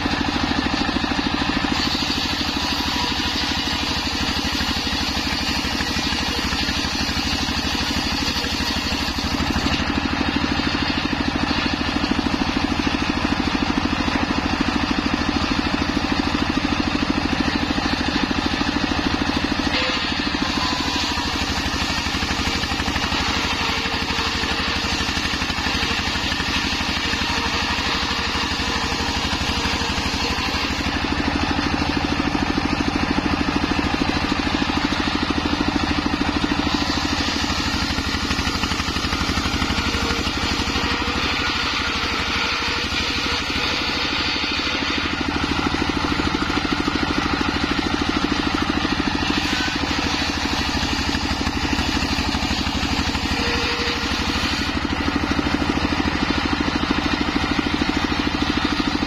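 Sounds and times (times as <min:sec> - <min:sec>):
circular saw cutting wood: 0:00.0 - 0:59.0
diesel engine running: 0:00.0 - 0:59.0.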